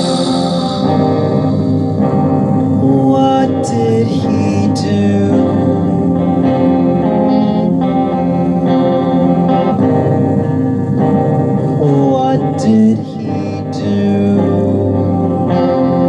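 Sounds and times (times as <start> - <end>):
guitar playing chords: 0.0 - 16.0.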